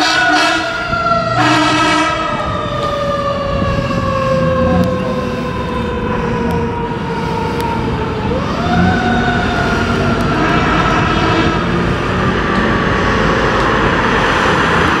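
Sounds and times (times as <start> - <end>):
engine rumble: 0.0 - 15.0
fire engine siren winding: 0.0 - 15.0
traffic noise: 0.0 - 15.0.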